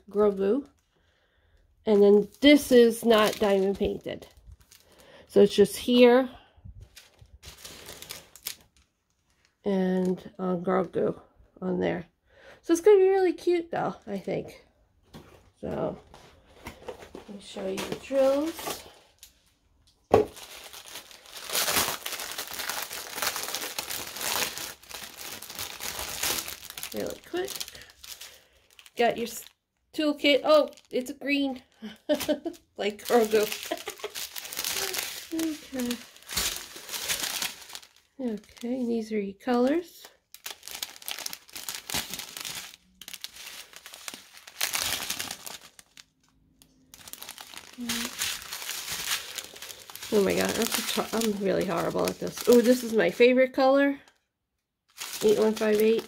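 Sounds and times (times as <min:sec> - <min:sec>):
plastic packaging crinkling: 0:01.9 - 0:06.1, 0:06.8 - 0:10.3, 0:16.1 - 0:29.6, 0:30.2 - 0:53.6, 0:54.9 - 0:56.0.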